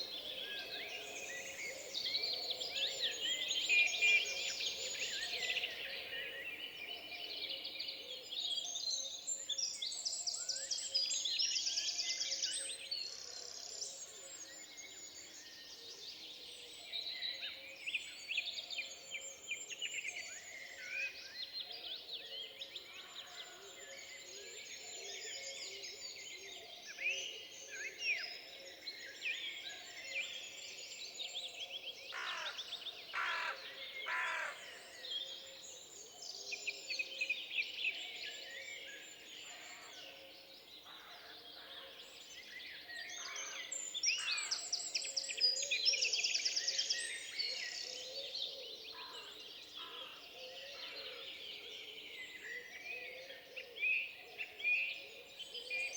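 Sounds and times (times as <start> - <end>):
birds singing and calling: 0.0 - 55.9.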